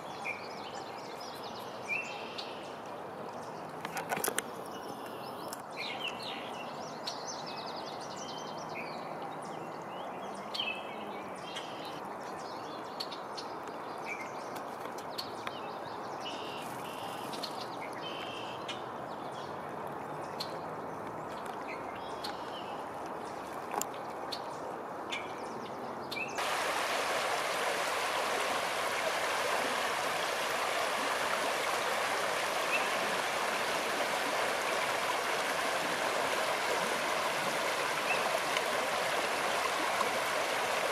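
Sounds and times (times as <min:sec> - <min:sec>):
stream rippling over rocks: 0:00.0 - 0:25.1, 0:26.4 - 0:40.9.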